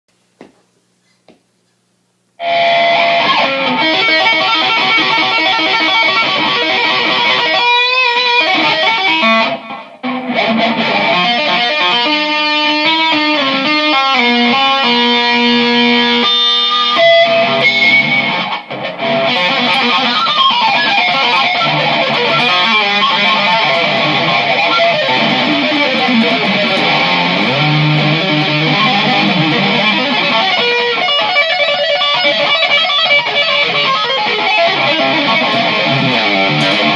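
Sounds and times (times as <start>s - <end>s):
loud guitar music: 2.4s - 36.9s.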